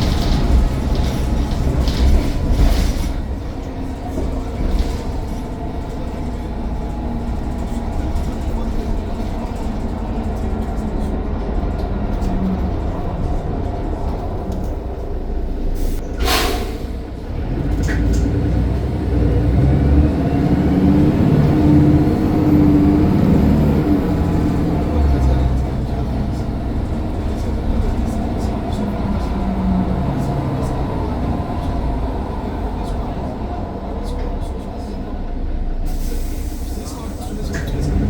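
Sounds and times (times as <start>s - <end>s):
bus engine running: 0.0s - 38.0s.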